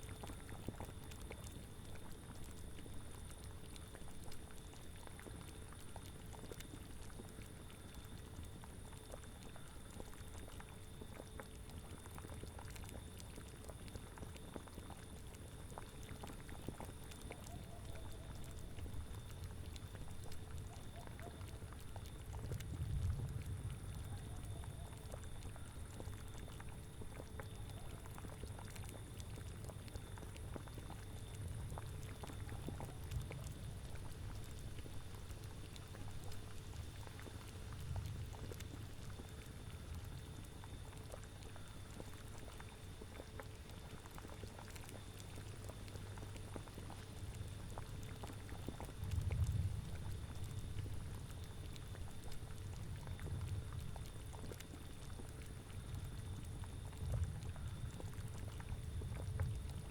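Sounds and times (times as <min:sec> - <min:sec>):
liquid bubbling and popping: 0:00.0 - 0:59.9.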